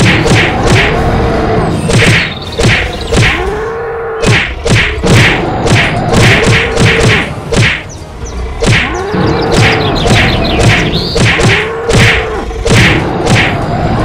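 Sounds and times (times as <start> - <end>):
cartoon whacks and thuds: 0.0 - 1.0, 1.9 - 3.5, 4.2 - 7.9, 8.6 - 13.6.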